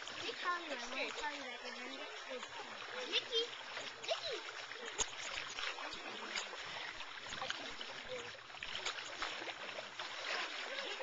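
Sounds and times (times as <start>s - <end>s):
pool water sloshing and splashing: 0.0s - 11.0s.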